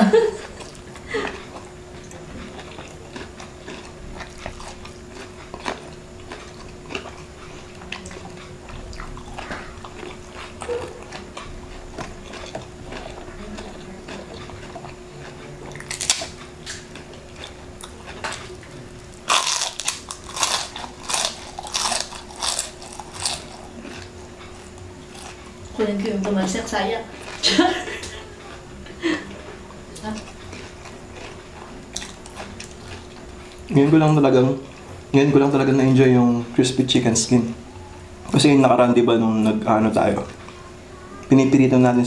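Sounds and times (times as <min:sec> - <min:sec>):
chewing crispy food: 0:00.1 - 0:42.0.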